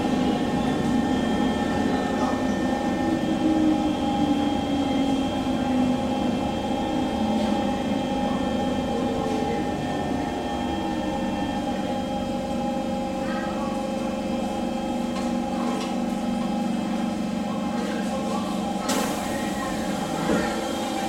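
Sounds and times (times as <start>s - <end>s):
electric train whining and rumbling: 0.0s - 21.0s.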